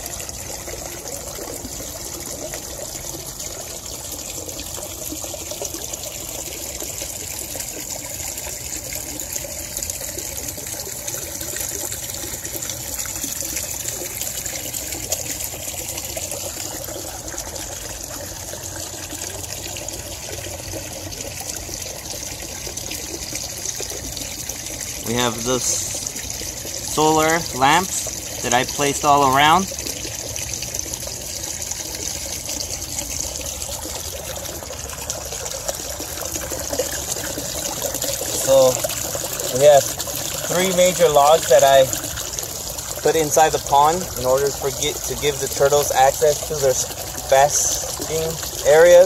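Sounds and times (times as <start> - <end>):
water trickling into pond: 0.0 - 49.0.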